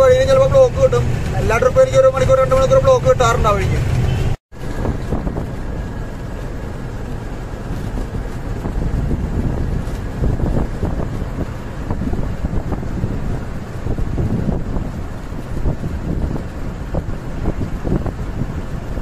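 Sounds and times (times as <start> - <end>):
truck engine and road rumble: 0.0 - 19.0
wind buffeting microphone: 3.5 - 19.0.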